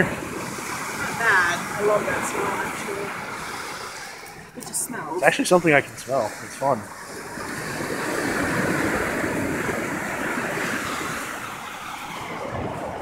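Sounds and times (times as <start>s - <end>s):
wave washing up beach: 0.0s - 13.0s.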